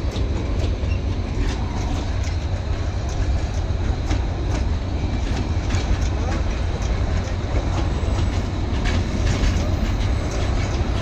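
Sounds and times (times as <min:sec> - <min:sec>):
train coaches rumbling past: 0:00.0 - 0:11.0
wheels clacking over rail joints: 0:00.0 - 0:11.0.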